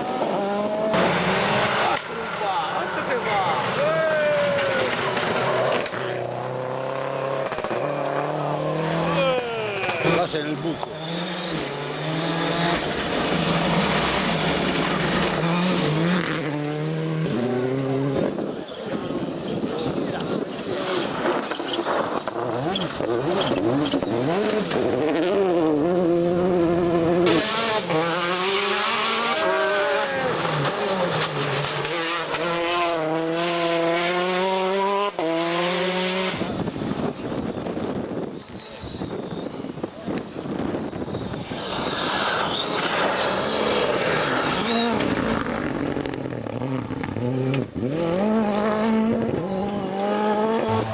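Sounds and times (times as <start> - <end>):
rally car engine revving: 0.0 - 37.7, 38.9 - 50.9.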